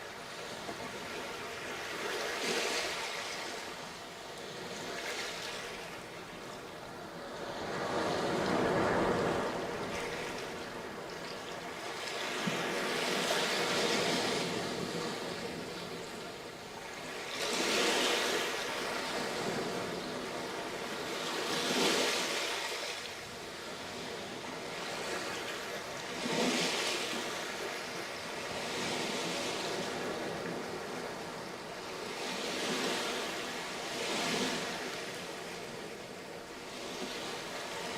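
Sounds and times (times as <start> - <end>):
waves breaking on a beach: 0.0 - 37.9.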